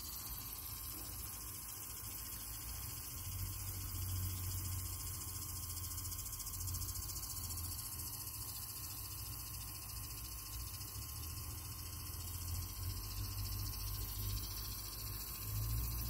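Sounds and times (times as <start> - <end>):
high insect trilling: 0.0 - 16.0.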